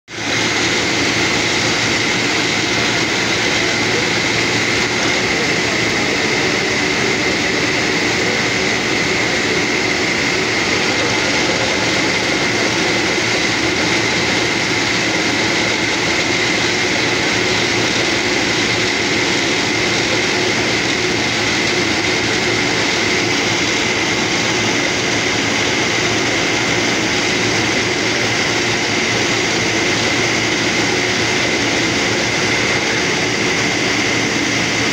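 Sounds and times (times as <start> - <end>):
air blowing cuttings: 0.1 - 34.9
drilling rig running: 0.1 - 34.9
high whine: 0.1 - 34.9.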